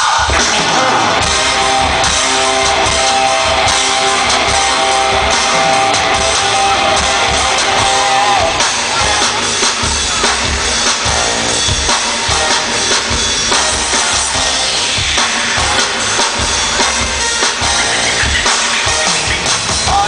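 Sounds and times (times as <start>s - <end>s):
steady low beat: 0.3s - 19.0s.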